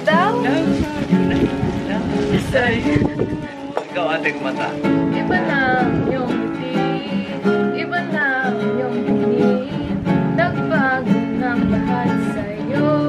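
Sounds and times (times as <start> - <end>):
gliding melody line: 0.0 - 13.0
strummed acoustic guitar: 0.0 - 13.0.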